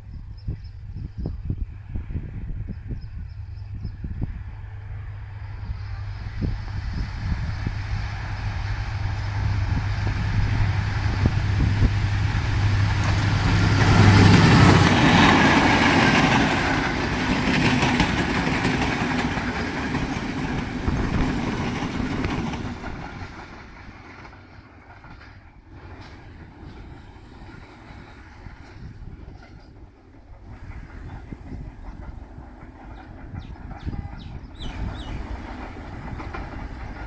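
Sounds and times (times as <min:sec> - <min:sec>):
diesel locomotive engine drone: 0:00.0 - 0:37.0
train wheels rolling: 0:01.7 - 0:37.0.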